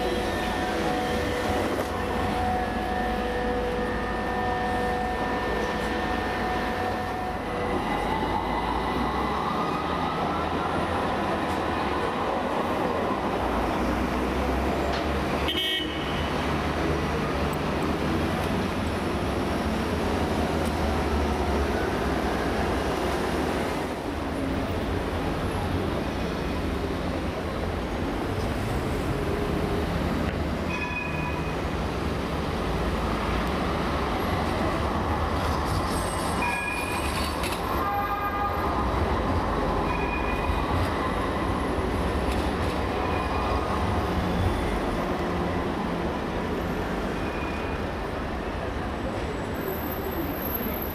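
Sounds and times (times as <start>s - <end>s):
trams and cars rumbling: 0.0s - 50.9s.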